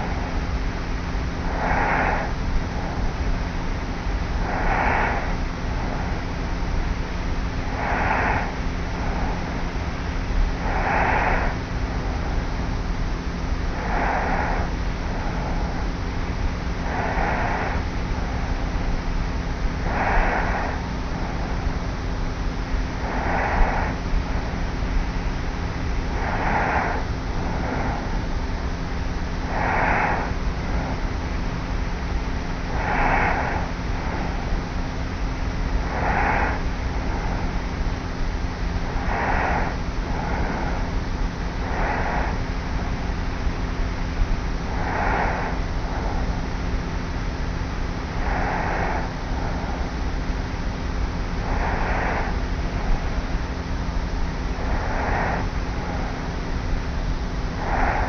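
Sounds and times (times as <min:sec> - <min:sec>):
low hum and tape hiss: 0:00.0 - 0:58.0.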